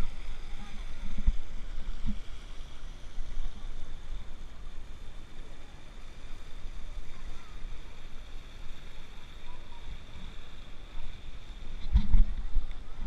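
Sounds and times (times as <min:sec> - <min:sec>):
faint voices: 0:00.0 - 0:13.0
water jets rushing and splashing: 0:00.0 - 0:13.0.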